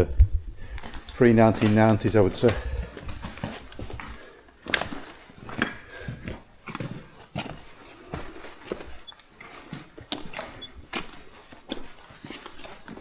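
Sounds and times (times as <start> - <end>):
footsteps on rocky floor: 0.6 - 13.0.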